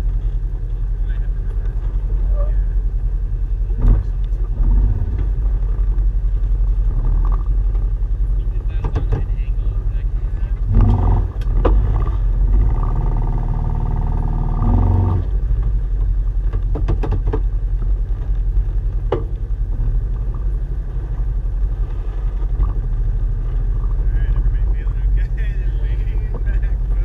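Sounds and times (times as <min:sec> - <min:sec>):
vehicle engine low rumble: 0:00.0 - 0:27.0
vehicle knocks and clanks: 0:03.6 - 0:13.4, 0:14.4 - 0:27.0.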